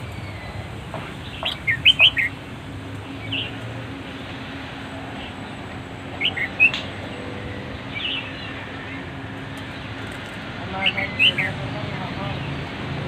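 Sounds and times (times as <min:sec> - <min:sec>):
bird chirping: 0:00.0 - 0:02.4, 0:03.0 - 0:04.3, 0:05.1 - 0:10.1, 0:10.7 - 0:12.7.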